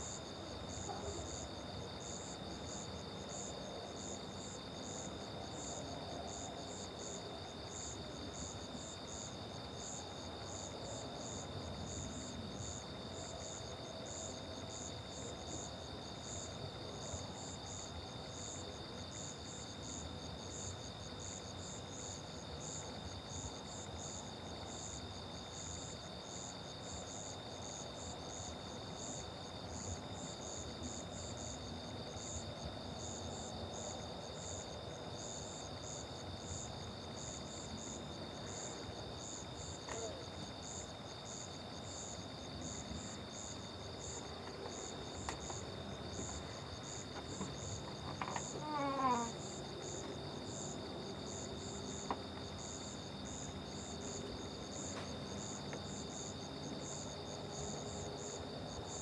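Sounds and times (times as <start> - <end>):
continuous insect trill: 0.0 - 59.0.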